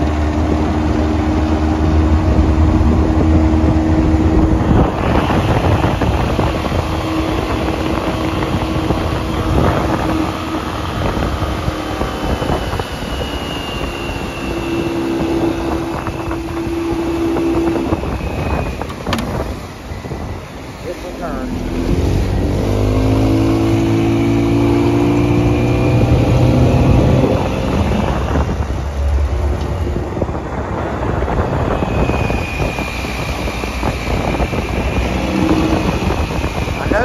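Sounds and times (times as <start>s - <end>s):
outboard motor running: 0.0s - 37.0s
rushing boat wake: 0.0s - 37.0s
wind buffeting microphone: 0.0s - 37.0s.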